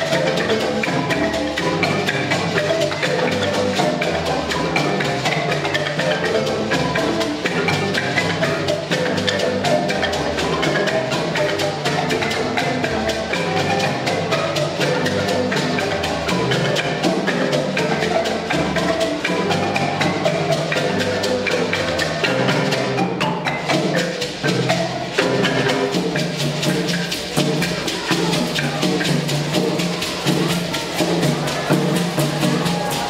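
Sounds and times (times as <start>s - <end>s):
drum: 0.0s - 33.0s
gourd shakers rattling: 0.0s - 33.0s
marimbas playing fast pattern: 0.0s - 33.0s.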